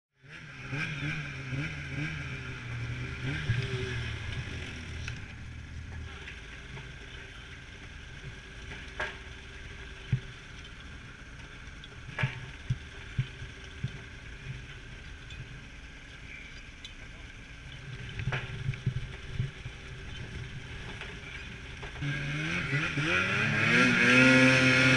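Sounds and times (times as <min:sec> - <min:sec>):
snowmobile engine idling: 0:00.3 - 0:24.9.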